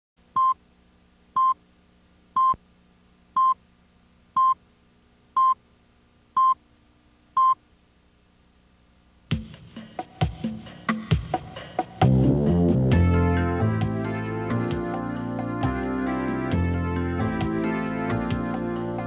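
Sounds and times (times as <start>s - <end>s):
faint steady hum: 0.2s - 19.0s.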